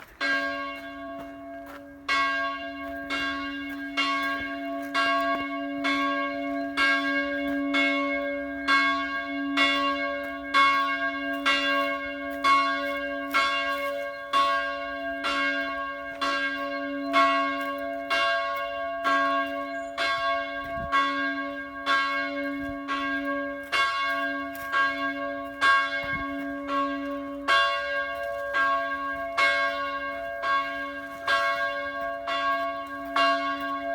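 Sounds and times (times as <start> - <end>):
church bell tolling: 0.0 - 33.9.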